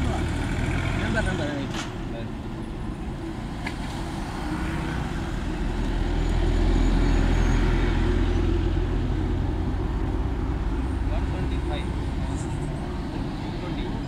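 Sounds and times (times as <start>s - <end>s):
road vehicle rumble: 0.0s - 14.0s.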